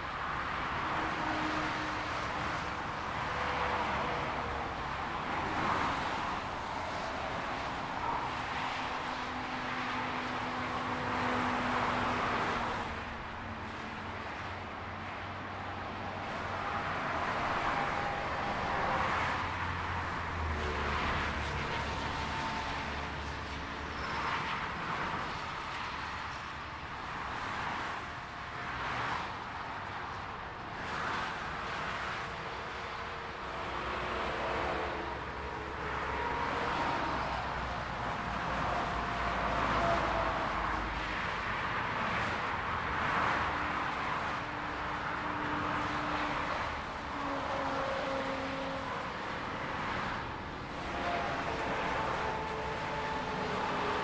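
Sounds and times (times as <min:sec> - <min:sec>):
motorway traffic: 0:00.0 - 0:54.0.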